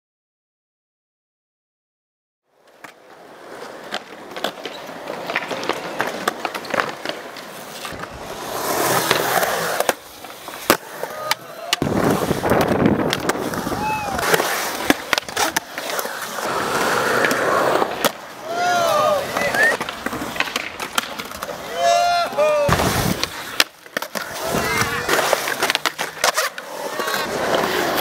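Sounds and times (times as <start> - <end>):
skateboard wheels rolling on concrete: 2.5 - 28.0
skateboard clacking on concrete: 2.7 - 28.0.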